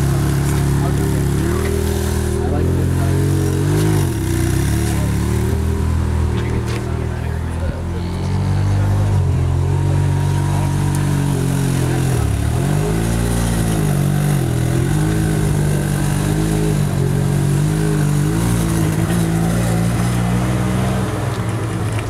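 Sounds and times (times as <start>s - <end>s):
sports car engine running: 0.0s - 22.0s.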